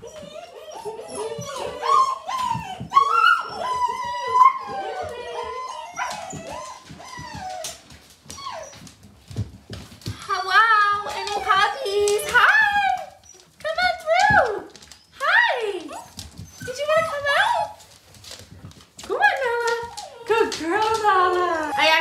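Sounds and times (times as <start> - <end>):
puppies whining and yipping: 0.0 - 9.2, 11.0 - 13.6, 14.2 - 18.5, 19.6 - 22.0.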